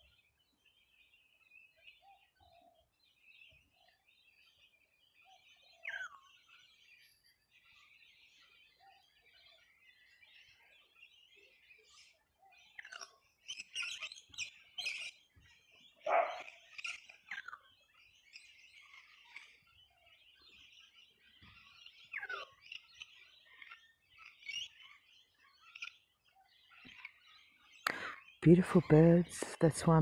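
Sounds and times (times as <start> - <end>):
birds chirping and calling: 0.0 - 30.0.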